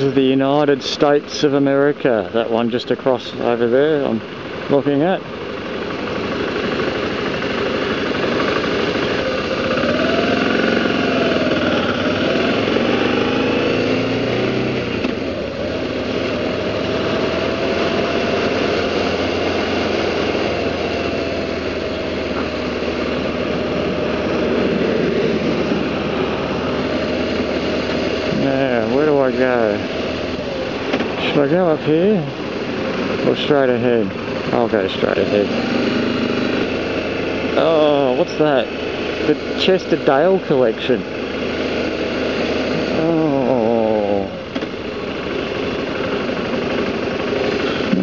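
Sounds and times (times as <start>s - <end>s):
motorcycle engine running: 0.0s - 48.0s
road and wind noise: 0.0s - 48.0s.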